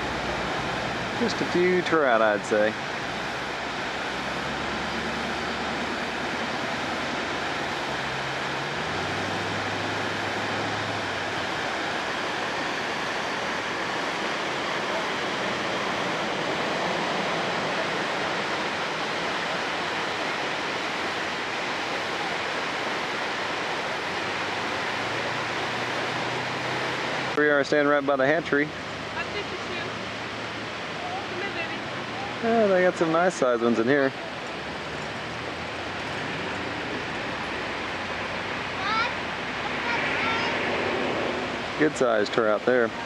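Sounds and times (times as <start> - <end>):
water rushing over weir: 0.0 - 43.0.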